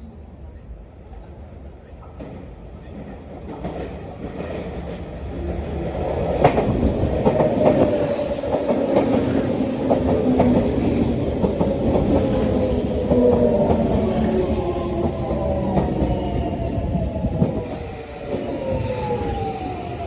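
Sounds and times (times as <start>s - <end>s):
wheels clacking over rail joints: 3.5s - 20.0s.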